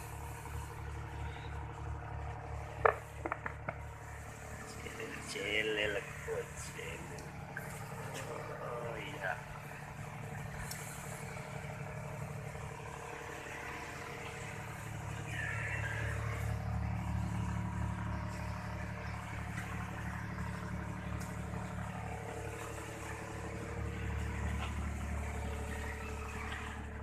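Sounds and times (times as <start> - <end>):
engine pulsing hum: 0.0 - 27.0.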